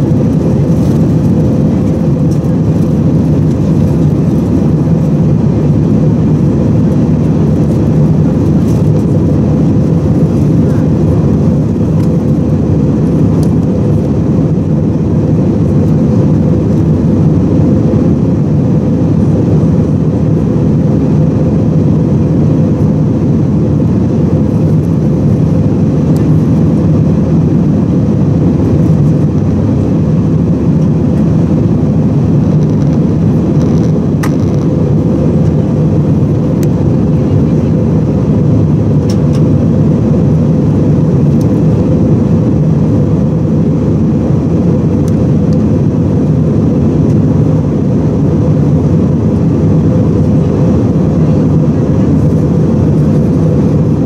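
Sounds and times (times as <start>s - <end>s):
airplane cabin engine roar: 0.0s - 54.0s.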